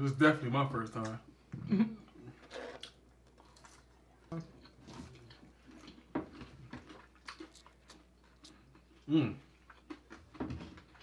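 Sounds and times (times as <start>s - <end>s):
person chewing: 2.1s - 11.0s.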